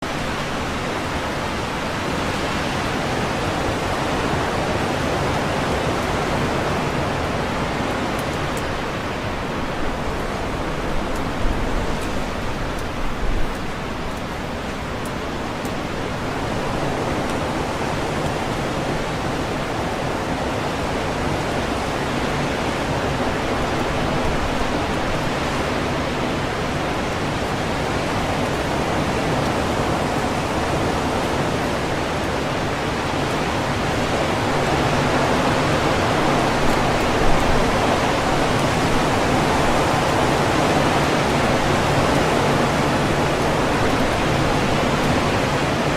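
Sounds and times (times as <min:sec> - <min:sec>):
wind rustling tree leaves: 0:00.0 - 0:45.9.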